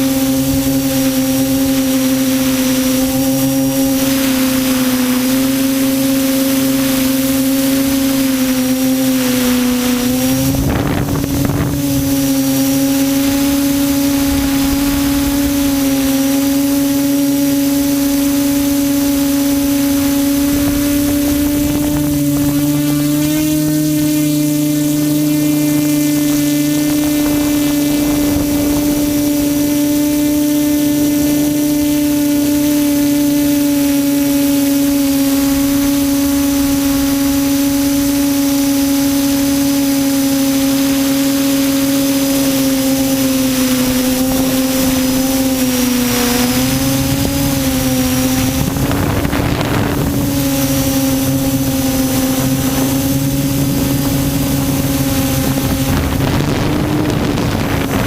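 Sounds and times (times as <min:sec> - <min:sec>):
quadcopter propellers humming: 0:00.0 - 0:58.0
wind noise rush: 0:00.0 - 0:58.0.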